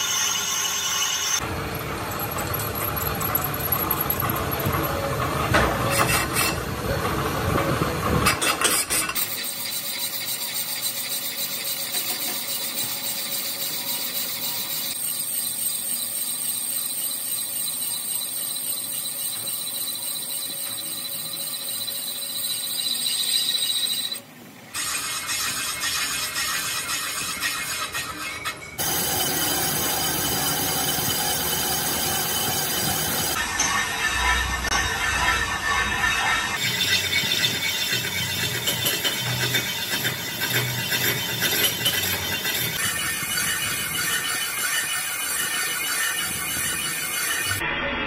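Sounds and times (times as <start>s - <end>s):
lathe tool cutting metal: 0.0s - 5.1s, 8.7s - 24.2s, 24.8s - 47.6s.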